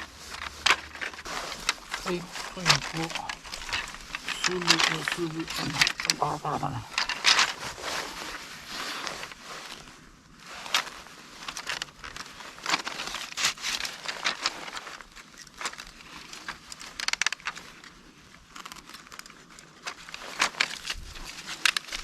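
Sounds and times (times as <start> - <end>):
bamboo strips rustling and clattering: 0.0 - 22.0.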